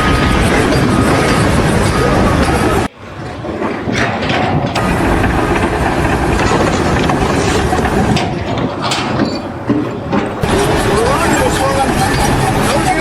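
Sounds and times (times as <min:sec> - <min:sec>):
machine running: 0:00.0 - 0:13.0.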